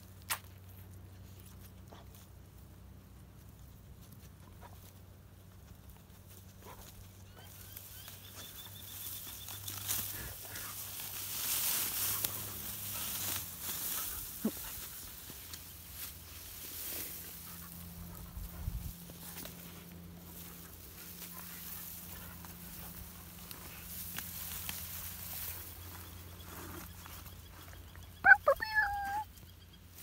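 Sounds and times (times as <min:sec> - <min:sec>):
faint low hum: 0:00.0 - 0:30.0
dry wheat stalks rustling: 0:00.1 - 0:30.0.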